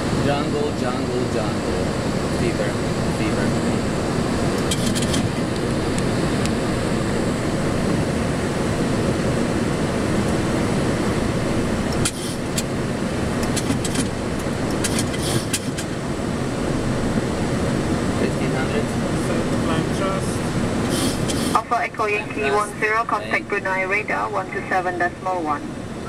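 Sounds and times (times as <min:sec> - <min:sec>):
aircraft engine and airflow noise: 0:00.0 - 0:26.0.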